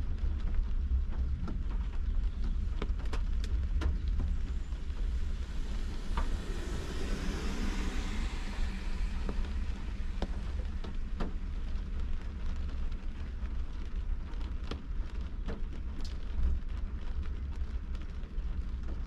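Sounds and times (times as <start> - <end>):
raindrops tapping on windshield: 0.0 - 19.0
steady low rumble: 0.0 - 19.0.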